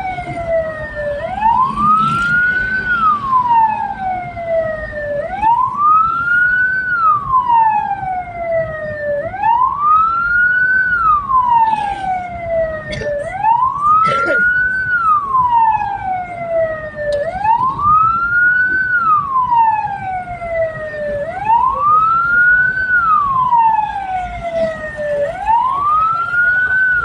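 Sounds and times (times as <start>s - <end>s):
electronic wail siren: 0.0s - 27.0s.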